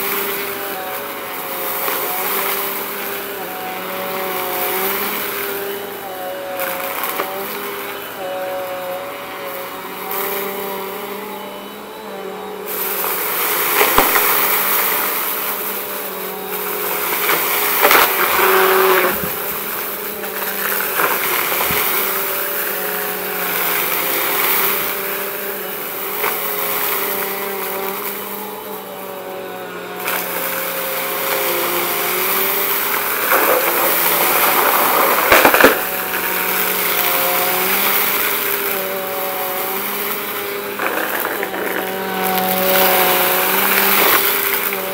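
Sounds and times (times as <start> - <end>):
debris crackling in vacuum: 0.0 - 44.9
vacuum cleaner motor whine: 0.0 - 44.9.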